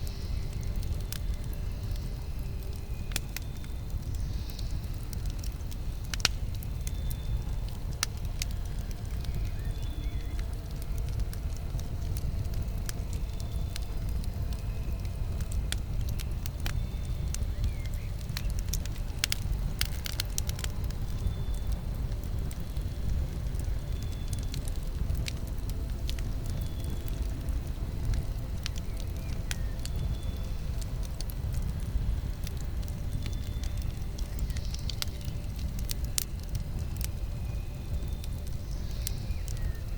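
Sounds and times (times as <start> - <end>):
campfire burning with pops: 0.0 - 39.9.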